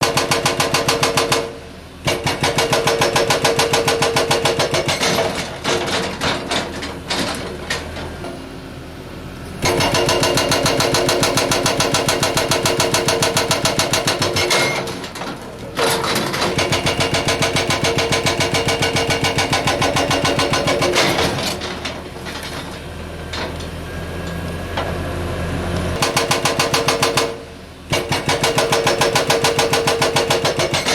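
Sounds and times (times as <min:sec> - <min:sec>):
hydraulic breaker hammering rock: 0:00.0 - 0:08.4, 0:09.6 - 0:22.6, 0:26.0 - 0:30.9
excavator engine running: 0:00.1 - 0:30.9.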